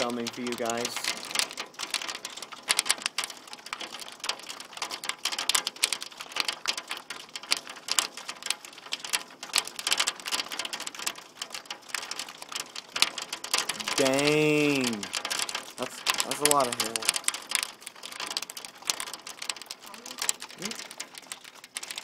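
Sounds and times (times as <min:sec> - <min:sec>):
hail and heavy rain on hard surface: 0:00.0 - 0:22.0.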